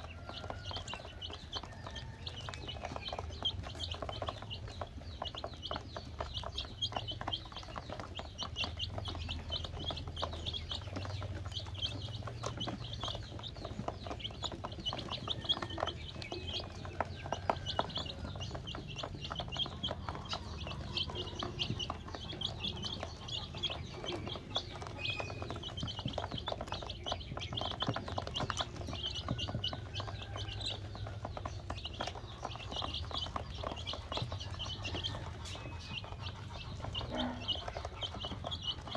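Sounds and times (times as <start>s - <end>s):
baby chicks peeping: 0.0s - 38.9s
beaks pecking on plastic tub: 0.0s - 38.9s.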